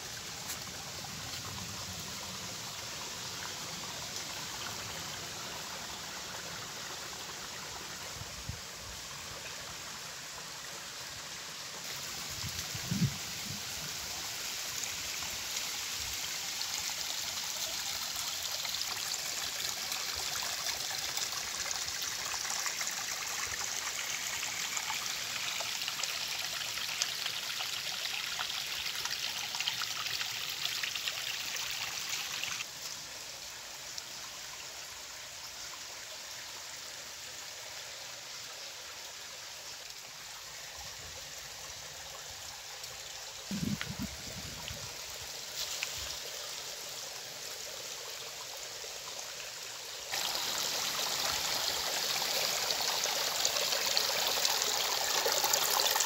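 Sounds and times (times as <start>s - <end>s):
stream trickling over rocks: 0.0s - 56.0s.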